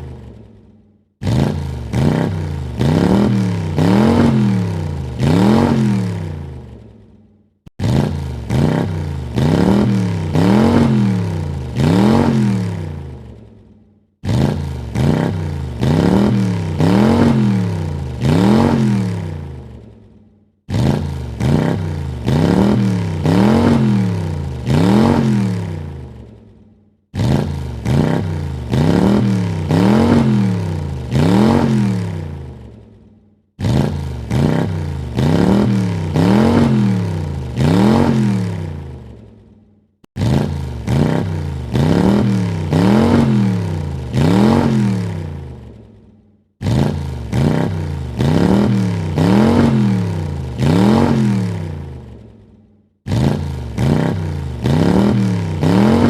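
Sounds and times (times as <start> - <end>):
car engine revving in blips: 1.2 - 6.8, 7.7 - 13.4, 14.2 - 19.8, 20.7 - 26.3, 27.1 - 32.7, 33.6 - 39.2, 40.1 - 45.7, 46.6 - 52.2, 53.0 - 56.0.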